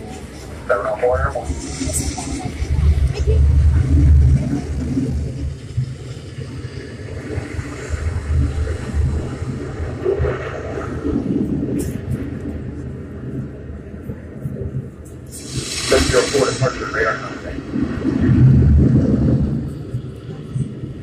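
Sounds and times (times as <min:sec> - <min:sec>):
jet engine low rumble: 0:00.0 - 0:21.0.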